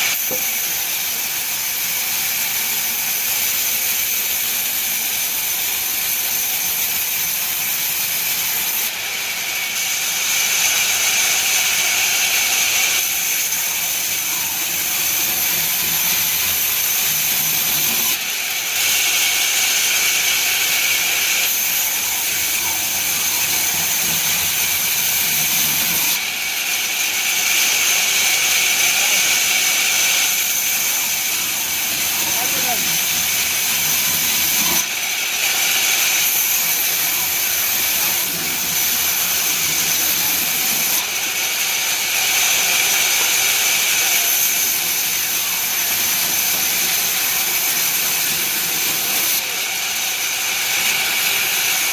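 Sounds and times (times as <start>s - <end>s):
sawmill machinery hissing: 0.0s - 51.9s.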